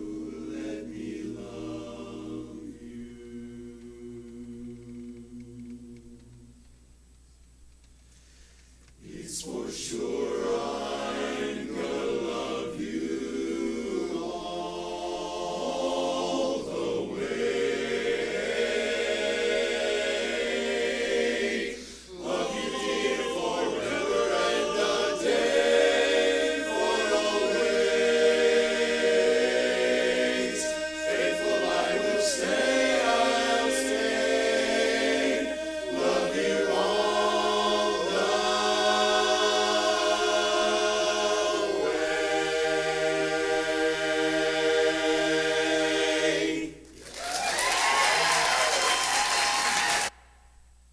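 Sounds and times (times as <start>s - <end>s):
barbershop chorus singing: 0.0s - 5.7s, 9.0s - 46.9s.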